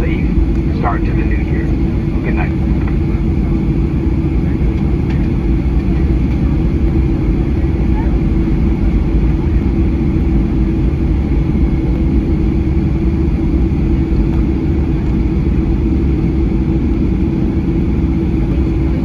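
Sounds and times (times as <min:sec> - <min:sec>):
jet engines idling rumble: 0:00.0 - 0:19.0
steady cabin hum: 0:00.0 - 0:19.0.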